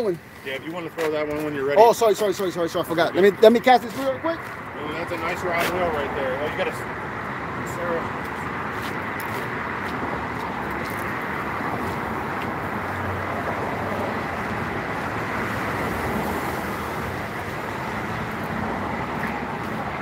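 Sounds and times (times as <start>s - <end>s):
road traffic hiss: 0.0s - 20.0s.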